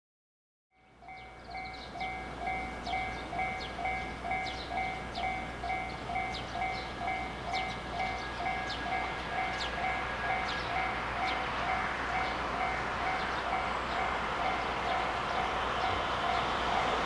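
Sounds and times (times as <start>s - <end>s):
railway warning bell ringing: 0.7s - 17.0s.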